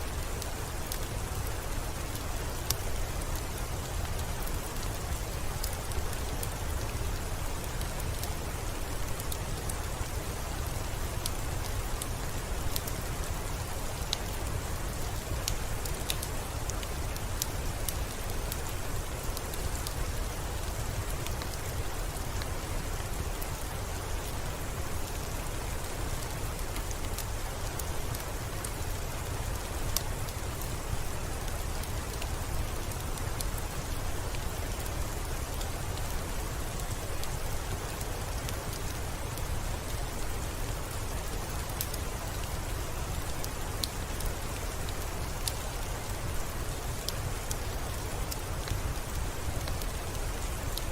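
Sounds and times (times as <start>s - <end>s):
rain hiss: 0.0s - 50.9s.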